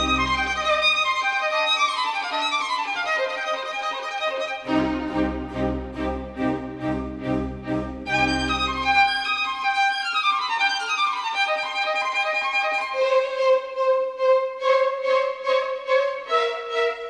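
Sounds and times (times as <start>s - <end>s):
string melody: 0.0s - 17.0s.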